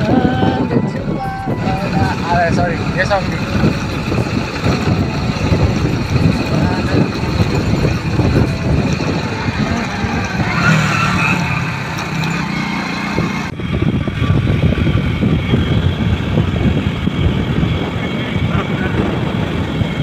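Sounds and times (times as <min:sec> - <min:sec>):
scooter engine running: 0:00.0 - 0:20.0
wind buffeting microphone: 0:00.0 - 0:20.0.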